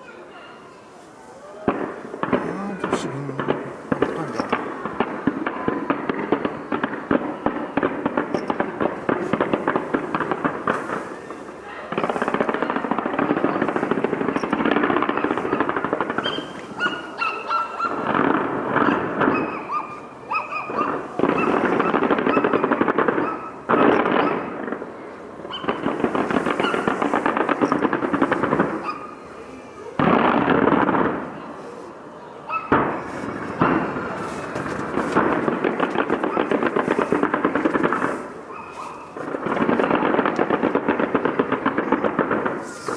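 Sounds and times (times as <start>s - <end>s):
fireworks crackling: 1.6s - 17.2s, 20.9s - 32.1s, 32.7s - 42.9s.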